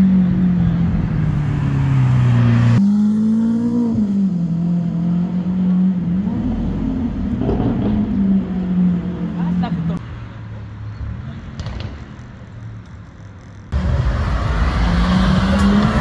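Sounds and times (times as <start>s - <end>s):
sports car engine accelerating: 0.0s - 10.0s, 12.8s - 16.0s.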